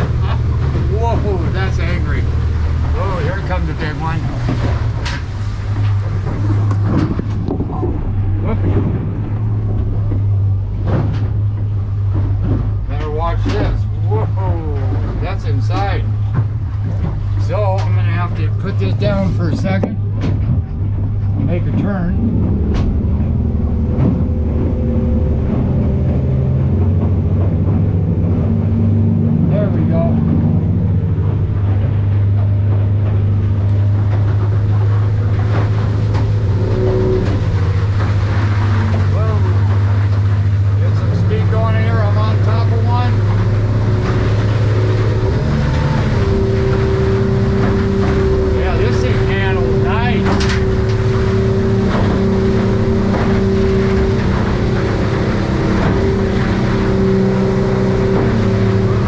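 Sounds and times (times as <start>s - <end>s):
outboard motor droning: 0.0s - 59.0s
water against hull: 0.0s - 59.0s
wind: 0.0s - 59.0s.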